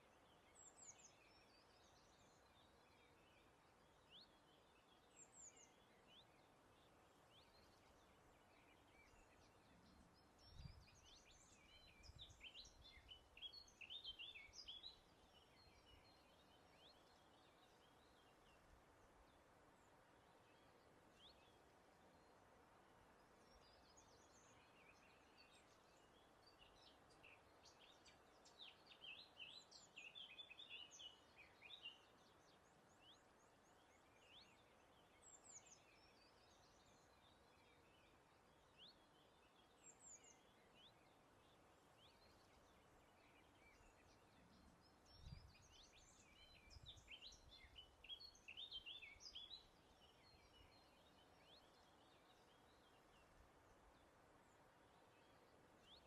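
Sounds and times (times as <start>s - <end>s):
soft breeze: 0.0s - 56.0s
songbird chirps and twitters: 0.0s - 56.0s.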